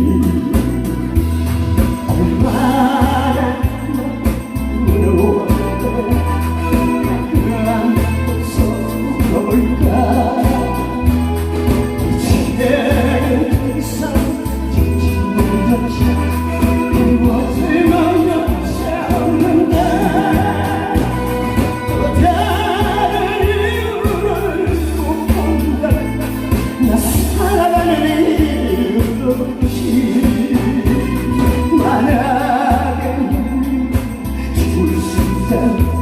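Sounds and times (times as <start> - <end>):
music accompaniment with bass beat: 0.0 - 36.0
person singing: 0.0 - 36.0.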